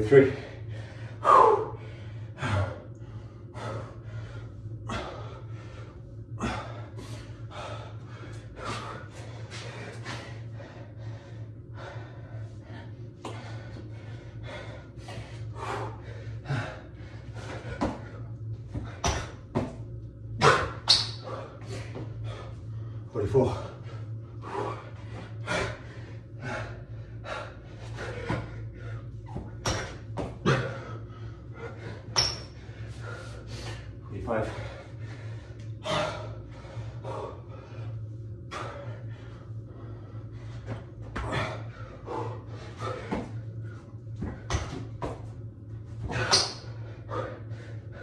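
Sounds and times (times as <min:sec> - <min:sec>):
man breathing hard: 0:00.0 - 0:48.0
steady low hum: 0:00.0 - 0:48.0.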